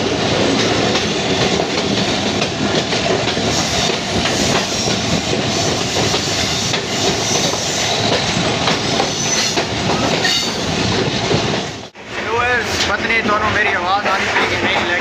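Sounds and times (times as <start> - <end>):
train carriage noise: 0.0 - 15.0.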